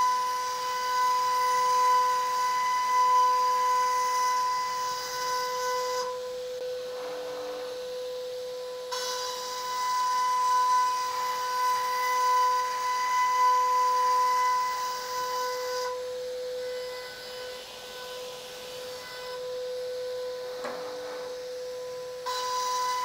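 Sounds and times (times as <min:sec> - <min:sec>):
router spindle whine: 0:00.0 - 0:23.0
hissing cutting noise: 0:03.5 - 0:23.0.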